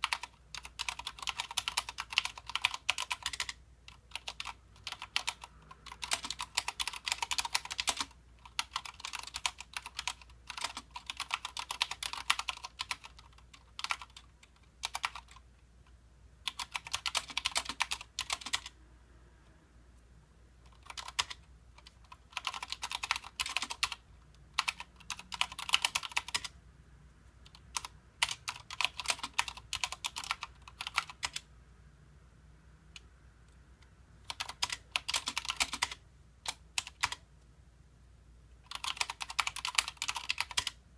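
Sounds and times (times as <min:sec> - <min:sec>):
mechanical keyboard typing: 0:00.0 - 0:15.5, 0:16.4 - 0:18.8, 0:20.6 - 0:26.6, 0:27.4 - 0:31.5, 0:34.2 - 0:37.2, 0:38.7 - 0:40.8.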